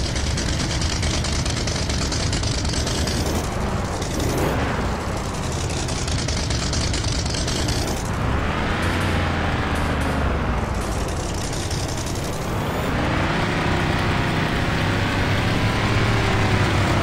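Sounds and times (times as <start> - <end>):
vehicle engines running roughly: 0.0 - 17.0.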